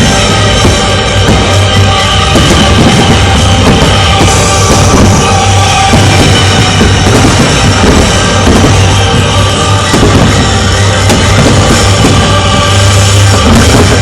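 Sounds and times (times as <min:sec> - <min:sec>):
loud rock music with drums: 0:00.0 - 0:14.0.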